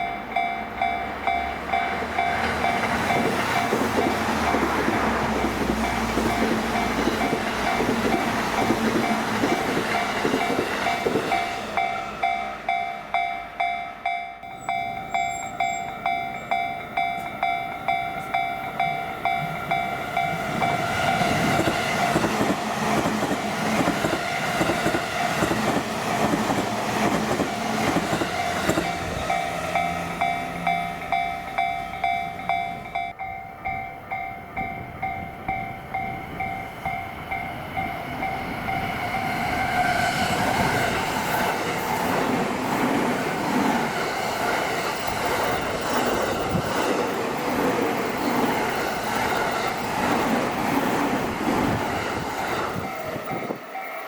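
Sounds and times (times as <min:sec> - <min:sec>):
level crossing warning bell: 0:00.0 - 0:42.1, 0:44.1 - 0:50.8, 0:51.7 - 0:54.0
train wheels rumbling: 0:00.0 - 0:54.0
rail clatter: 0:00.8 - 0:12.4, 0:17.2 - 0:33.2, 0:34.6 - 0:53.8.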